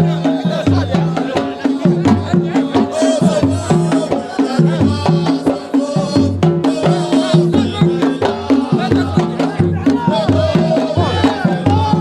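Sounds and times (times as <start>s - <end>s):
drums in a quick rhythm: 0.0s - 12.0s.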